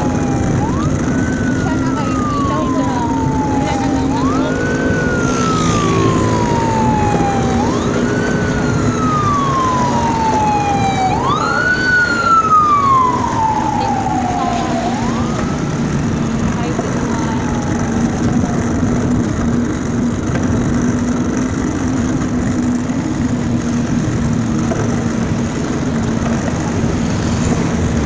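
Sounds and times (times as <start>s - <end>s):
siren wailing: 0.0s - 28.0s
street traffic hum: 0.0s - 28.0s.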